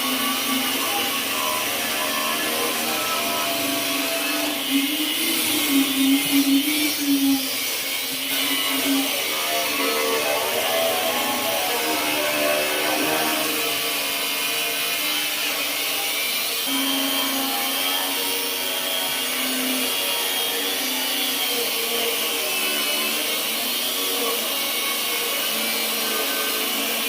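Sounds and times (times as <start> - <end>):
angle grinder running: 0.0 - 27.0.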